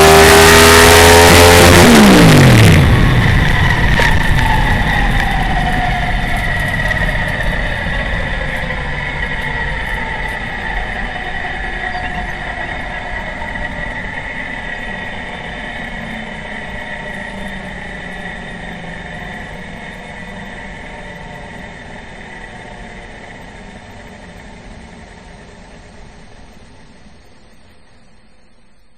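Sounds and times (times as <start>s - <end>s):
drag car engine drone with whine: 0.0s - 28.9s.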